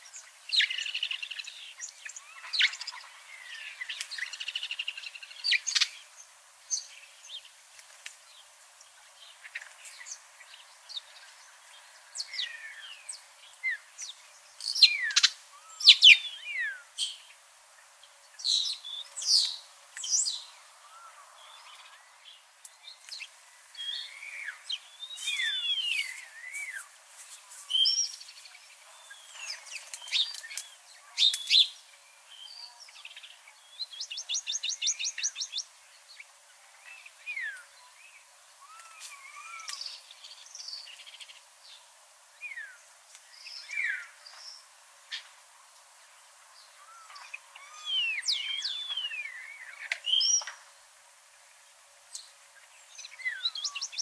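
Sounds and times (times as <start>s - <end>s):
birds chirping and calling: 0.1s - 7.4s, 9.0s - 17.4s, 18.4s - 41.5s, 46.6s - 50.6s, 52.1s - 54.0s.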